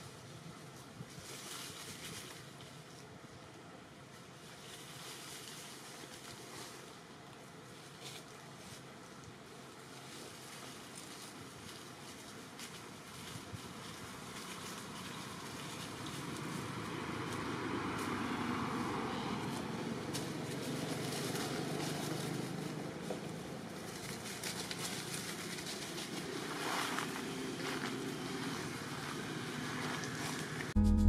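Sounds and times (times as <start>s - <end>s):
dry leaves rustling: 0.0s - 30.8s
outdoor background noise: 0.0s - 30.8s.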